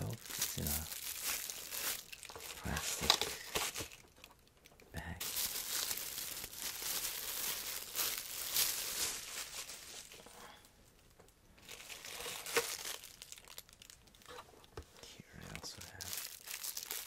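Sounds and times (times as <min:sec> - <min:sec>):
plastic bag crinkling: 0:00.0 - 0:10.4, 0:11.6 - 0:14.3, 0:15.5 - 0:17.0.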